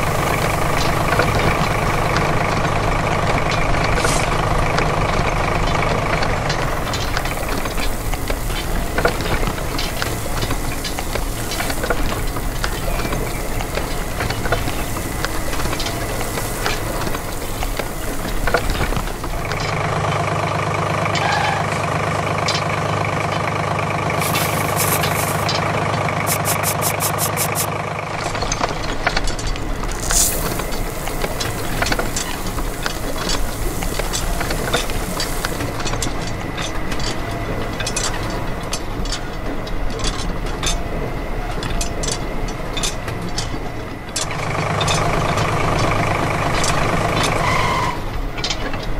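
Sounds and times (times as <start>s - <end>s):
smooth steady engine hum: 0.0s - 40.0s
engine idling with rattle: 0.0s - 48.9s.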